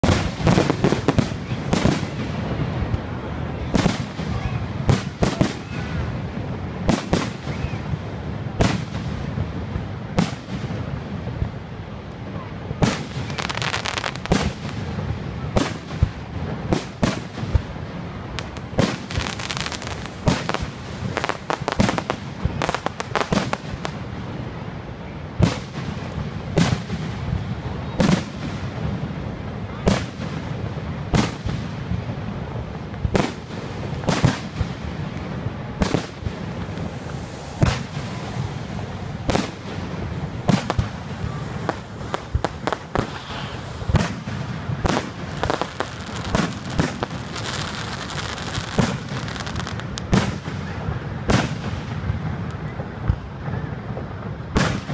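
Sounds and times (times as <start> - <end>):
fireworks bangs: 0.0 - 54.9
fireworks crackling: 0.0 - 54.9.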